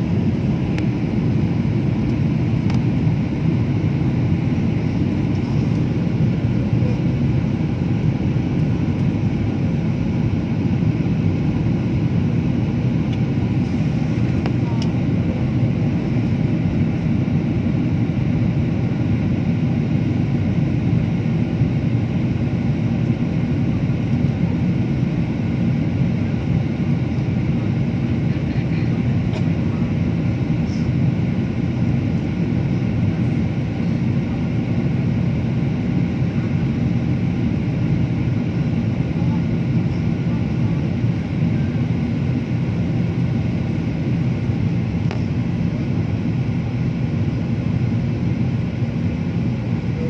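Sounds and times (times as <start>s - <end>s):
aircraft cabin engine drone: 0.0s - 50.0s.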